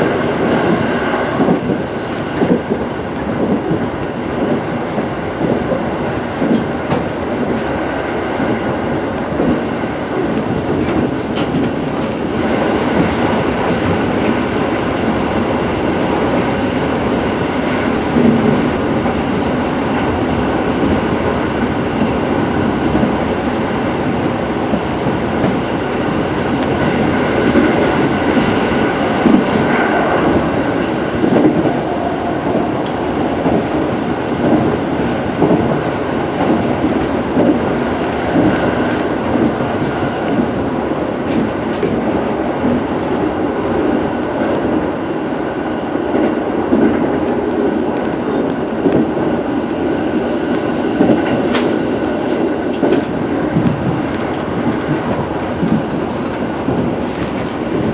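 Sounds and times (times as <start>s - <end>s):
train wheels rumbling on rail: 0.0s - 57.9s
light track clicks: 0.3s - 7.8s, 8.4s - 23.4s, 24.6s - 57.9s.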